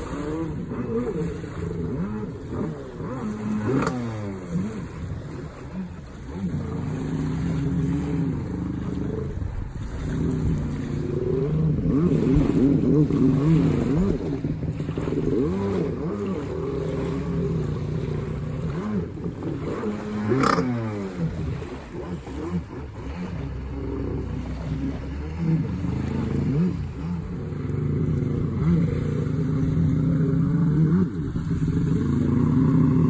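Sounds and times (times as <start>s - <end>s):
jet ski engine revving: 0.0s - 33.0s.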